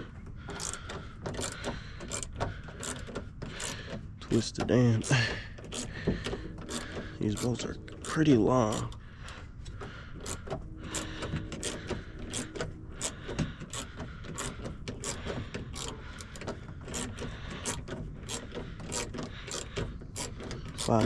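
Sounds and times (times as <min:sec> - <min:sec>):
hand ratchet clicking: 0:00.0 - 0:21.0.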